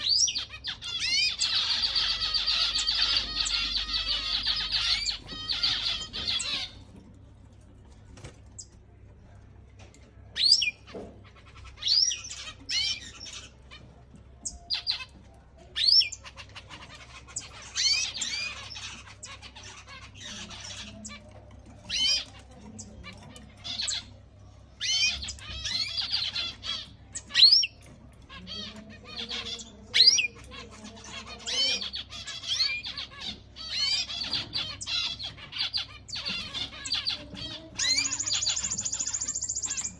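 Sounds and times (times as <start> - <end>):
canaries singing and chirping: 0.0 - 39.9.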